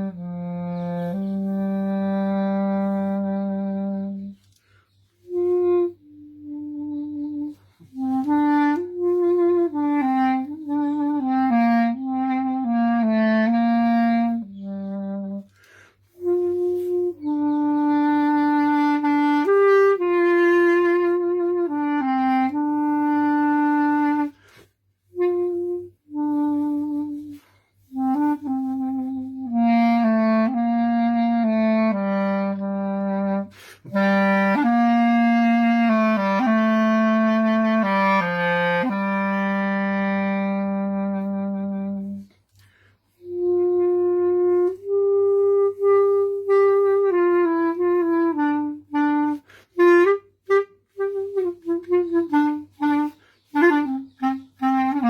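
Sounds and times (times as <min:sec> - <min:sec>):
solo wind instrument melody: 0:00.0 - 0:55.0.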